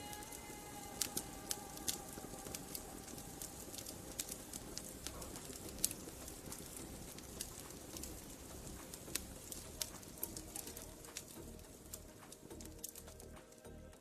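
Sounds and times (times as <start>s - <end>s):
faint music: 0.0s - 14.0s
wood fire crackling and popping: 0.0s - 14.0s.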